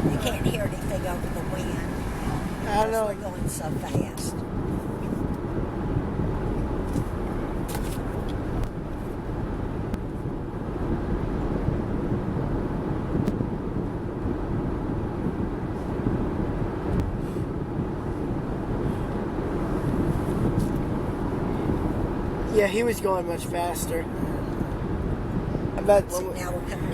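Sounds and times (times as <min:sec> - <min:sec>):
car road noise: 0:00.0 - 0:26.9
wind buffeting through car window: 0:00.0 - 0:26.9.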